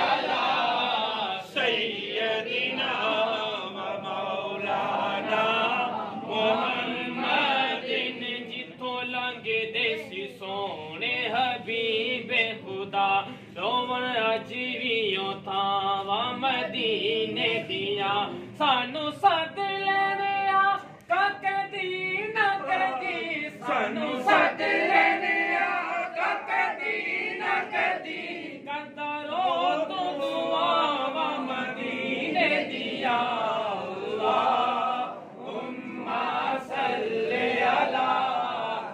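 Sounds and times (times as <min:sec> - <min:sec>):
men chanting together: 0:00.0 - 0:18.5, 0:22.3 - 0:38.9.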